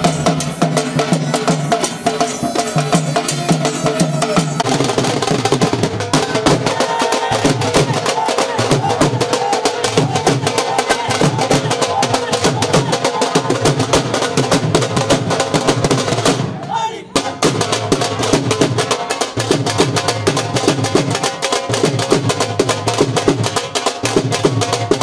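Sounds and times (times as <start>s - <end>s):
barrel drums played fast: 0.0s - 25.0s.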